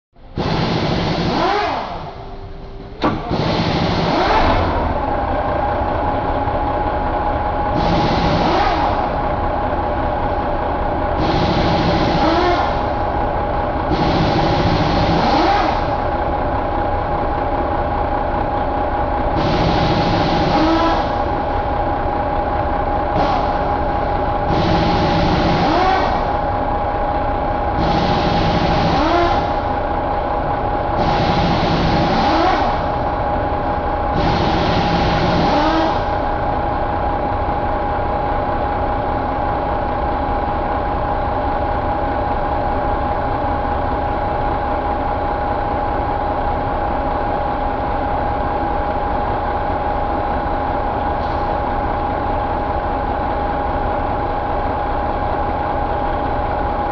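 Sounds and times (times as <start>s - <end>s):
diesel engine revving and idling: 0.2s - 56.9s
steady whine: 0.2s - 56.9s.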